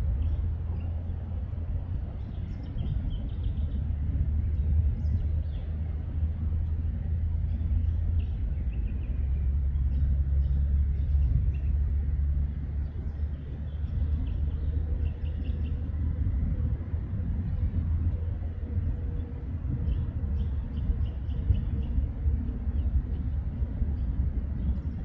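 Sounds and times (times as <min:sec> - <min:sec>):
distant jet aircraft rumble: 0:00.0 - 0:25.0.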